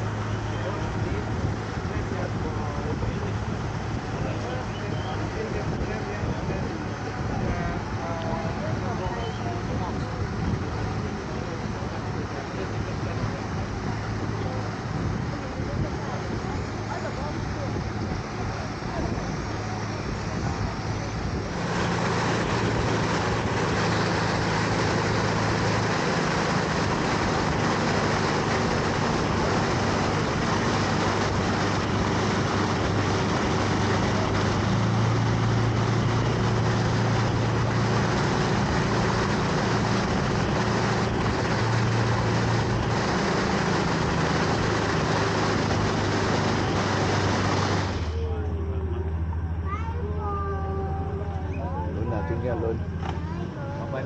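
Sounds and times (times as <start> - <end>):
motorboat engine running: 0.0 - 54.0
water rushing along hull: 0.0 - 54.0.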